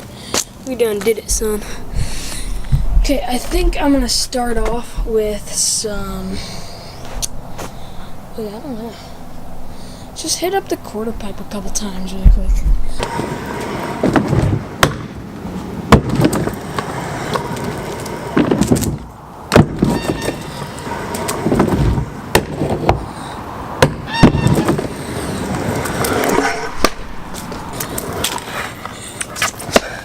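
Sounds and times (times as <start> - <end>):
scooter wheels rolling on concrete: 0.0 - 9.0, 10.2 - 30.0.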